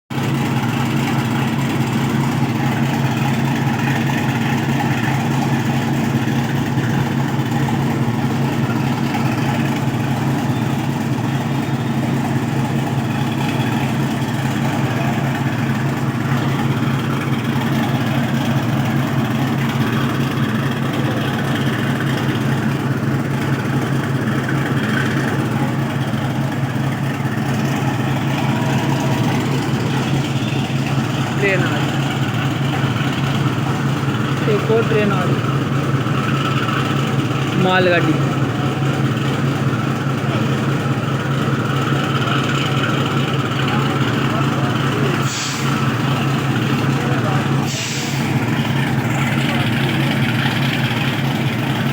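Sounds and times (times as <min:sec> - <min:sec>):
train engine droning: 0:00.1 - 0:51.9.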